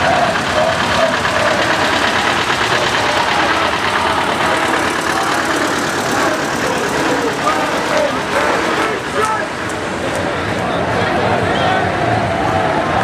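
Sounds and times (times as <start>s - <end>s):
tractor engine chugging: 0.0s - 12.1s.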